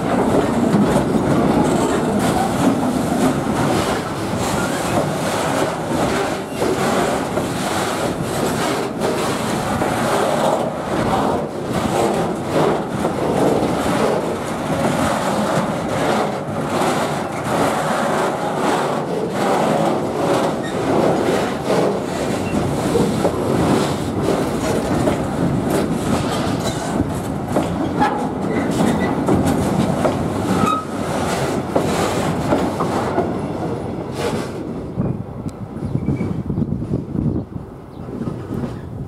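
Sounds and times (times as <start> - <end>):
clicks over rail joints: 0.0 - 34.7
train wheels rumbling on rail: 0.0 - 39.0.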